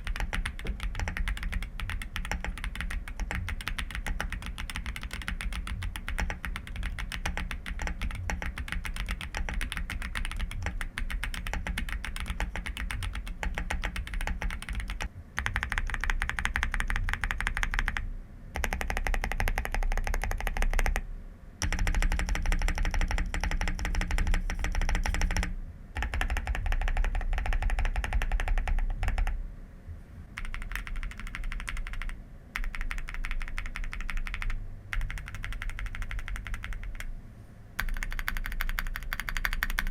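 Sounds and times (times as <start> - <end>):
mechanical keyboard typing: 0.0 - 18.0, 18.6 - 21.0, 21.6 - 29.4, 30.4 - 37.1, 37.8 - 39.9.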